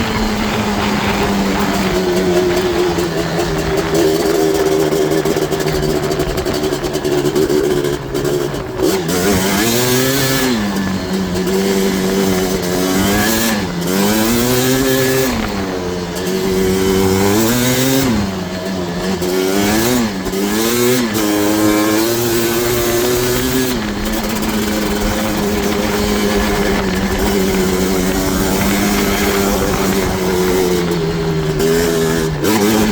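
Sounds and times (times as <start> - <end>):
two-stroke engine revving: 0.0 - 32.9.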